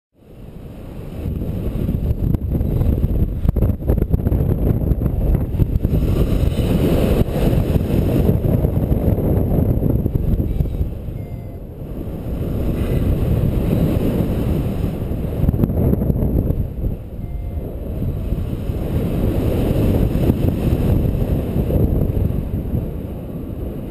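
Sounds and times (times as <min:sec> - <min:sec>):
wind rushing over microphone: 0:00.2 - 0:23.9.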